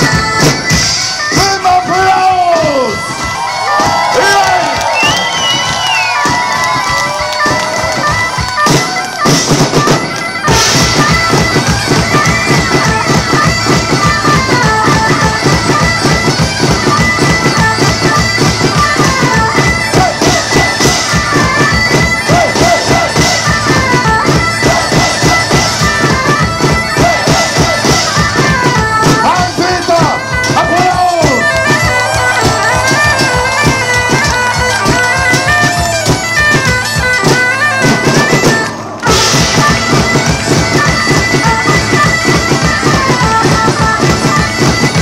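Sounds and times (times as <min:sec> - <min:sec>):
bagpipes playing over drone: 0:00.0 - 0:45.0
fast drum beat: 0:00.0 - 0:45.0.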